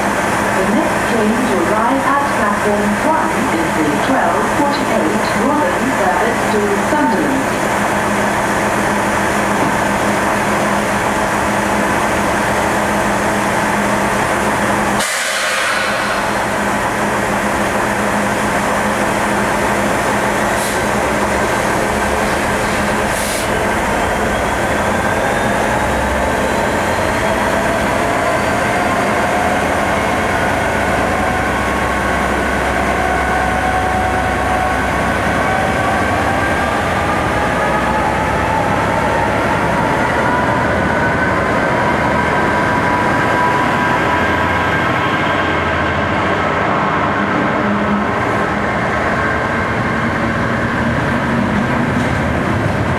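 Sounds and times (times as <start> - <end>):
diesel locomotive engine humming: 0.0 - 52.9.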